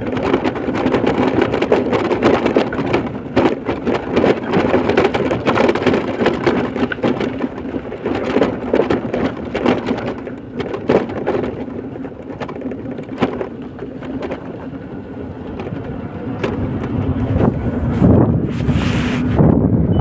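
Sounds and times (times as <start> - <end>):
knocks and clicks: 0.0 - 17.6
vehicle rumble on road: 0.0 - 20.0.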